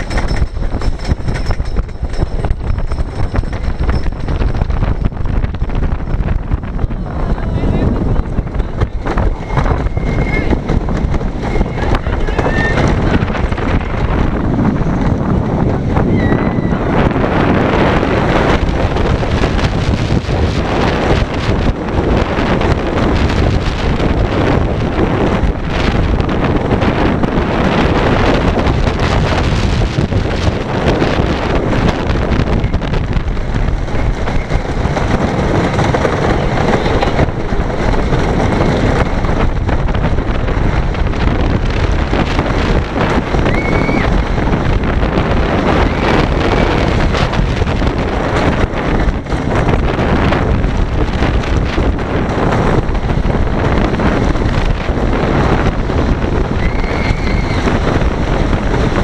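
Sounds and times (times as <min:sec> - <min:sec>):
roller coaster rumble and clatter: 0:00.0 - 0:59.0
wind buffeting microphone: 0:00.0 - 0:59.0.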